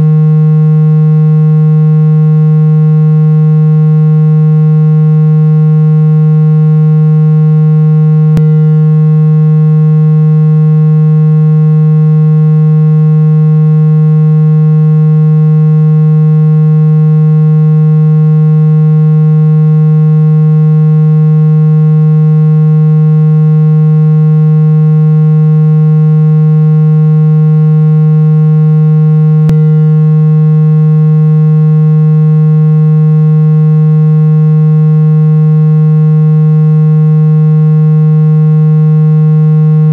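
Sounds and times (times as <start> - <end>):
loud steady low tone: 0.0 - 39.9.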